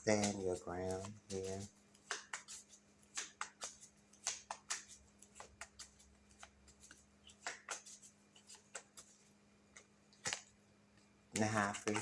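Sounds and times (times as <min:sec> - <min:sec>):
cards being shuffled: 0:00.0 - 0:09.3, 0:10.2 - 0:10.5, 0:11.4 - 0:12.0.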